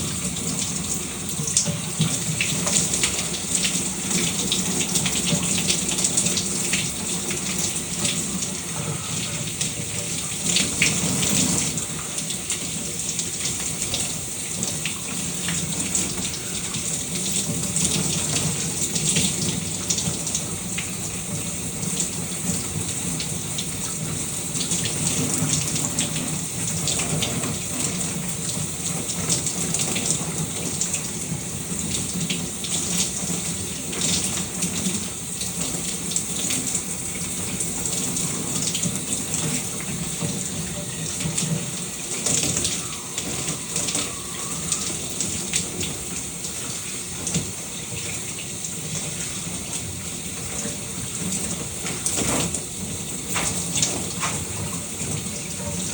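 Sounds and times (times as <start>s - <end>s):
shower water spattering: 0.0s - 55.9s.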